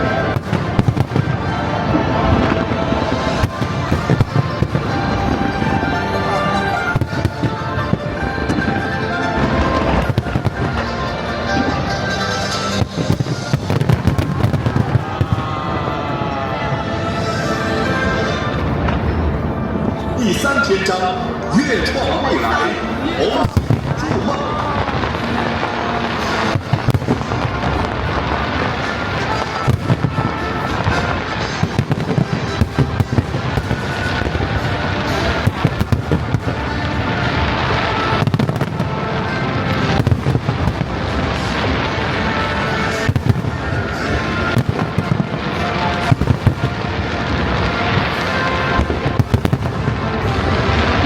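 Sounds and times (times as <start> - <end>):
fireworks bangs and crackling: 0.0 - 51.0.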